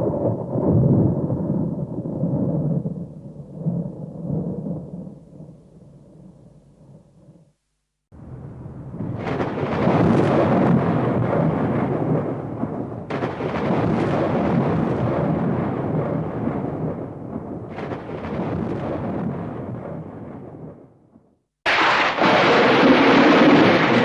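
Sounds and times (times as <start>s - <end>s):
thunder cracks: 0.0s - 5.6s, 8.2s - 20.9s, 21.7s - 24.0s
thunder rumbling: 0.0s - 7.5s, 8.1s - 24.0s.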